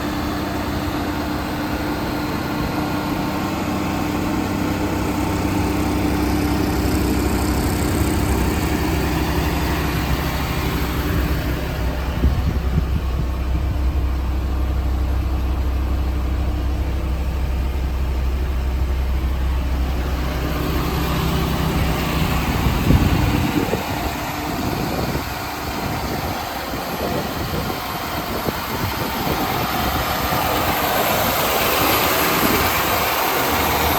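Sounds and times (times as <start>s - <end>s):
rough low rumbling: 0.0s - 33.9s
truck engine idling: 0.0s - 33.9s.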